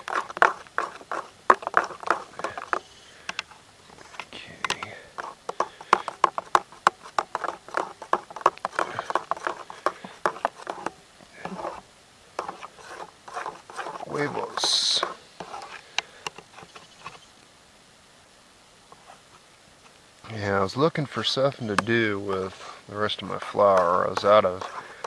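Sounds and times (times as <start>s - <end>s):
hands kneading dough: 0.0s - 11.8s, 12.4s - 17.2s, 20.4s - 25.0s.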